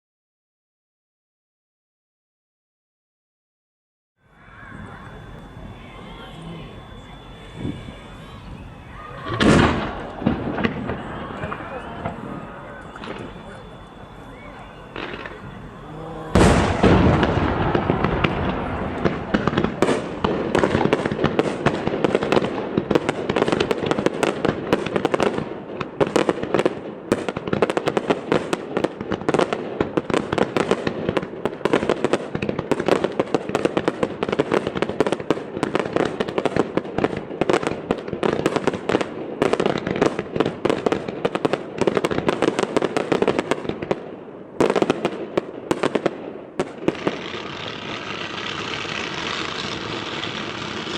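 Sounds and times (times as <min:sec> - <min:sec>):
fireworks booming and crackling: 0:04.3 - 0:50.9.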